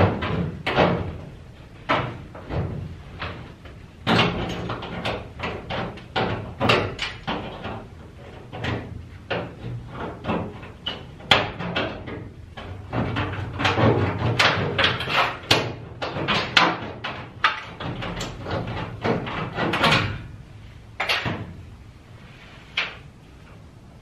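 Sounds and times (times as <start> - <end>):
sheet metal pipe knocks and clatter: 0.0 - 20.3, 21.0 - 21.6.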